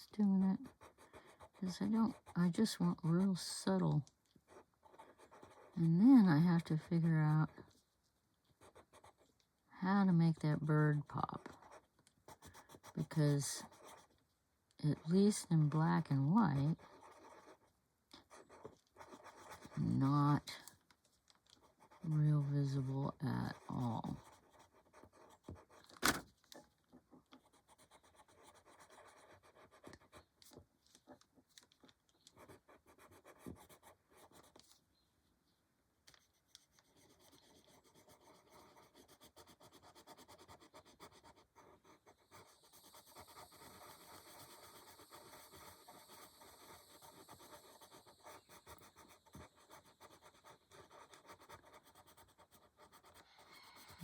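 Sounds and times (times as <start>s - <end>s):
pencil scratching on paper: 0.0s - 7.8s, 8.6s - 9.3s, 9.9s - 14.2s, 14.8s - 20.7s, 21.5s - 26.2s, 27.0s - 31.2s, 32.3s - 34.8s, 36.1s - 54.0s.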